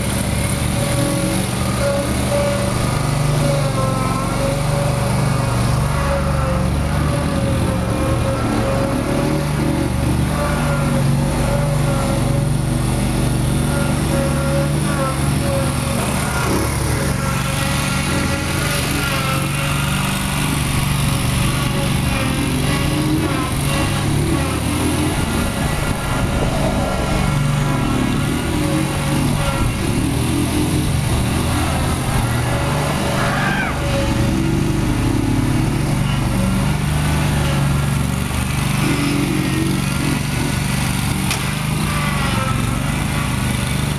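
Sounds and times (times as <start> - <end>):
quad engine running: 0.0 - 43.9.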